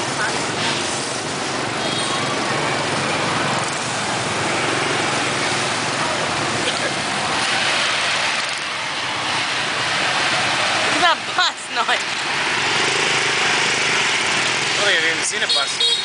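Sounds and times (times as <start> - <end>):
motorbike engines running: 0.0 - 16.0
street traffic: 0.0 - 16.0.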